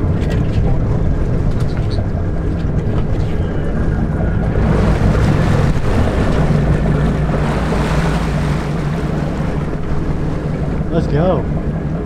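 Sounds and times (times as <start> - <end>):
boat engine idling: 0.0 - 12.0
water washing against hull: 0.0 - 12.0
wind on microphone: 0.0 - 12.0.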